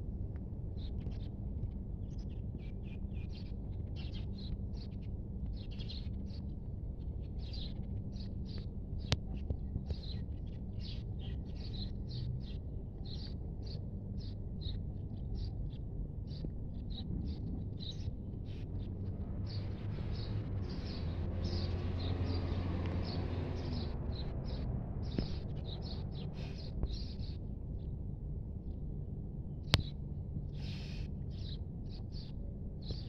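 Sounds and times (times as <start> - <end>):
steady low rumble: 0.0 - 33.0
small birds chirping: 0.8 - 27.9, 29.6 - 33.0.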